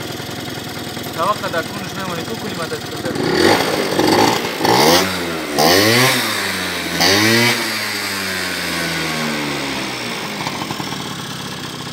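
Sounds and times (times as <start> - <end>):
motor scooter engine revving: 0.0 - 11.9.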